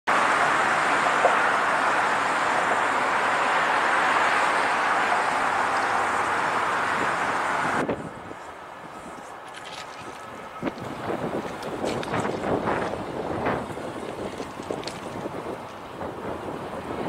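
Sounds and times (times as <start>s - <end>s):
passing vehicles rushing: 0.1s - 17.0s.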